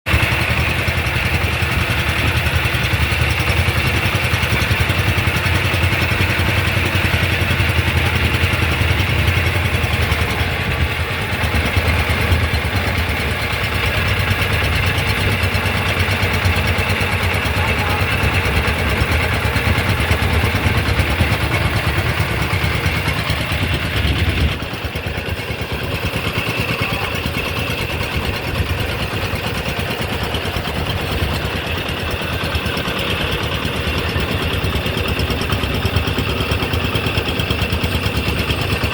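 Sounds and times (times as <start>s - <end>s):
engine hum: 0.1s - 38.9s.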